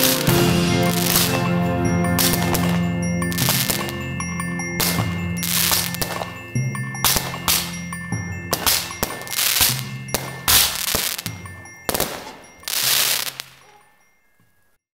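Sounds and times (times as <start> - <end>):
fireworks bangs with crackling: 0.0 - 4.2, 4.8 - 13.7.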